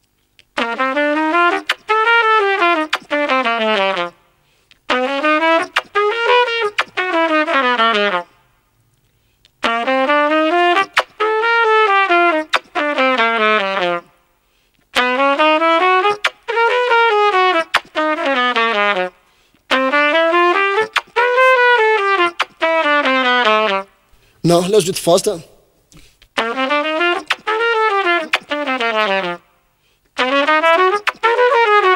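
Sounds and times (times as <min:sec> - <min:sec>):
trumpet playing quick runs: 0:00.6 - 0:04.2, 0:04.9 - 0:08.3, 0:09.6 - 0:14.1, 0:15.0 - 0:25.5, 0:26.4 - 0:29.4, 0:30.2 - 0:31.9.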